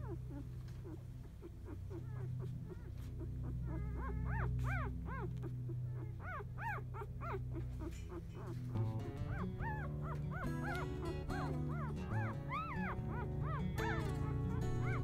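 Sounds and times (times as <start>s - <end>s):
puppies squeaking and whimpering: 0.0s - 15.0s
soft music: 2.0s - 15.0s.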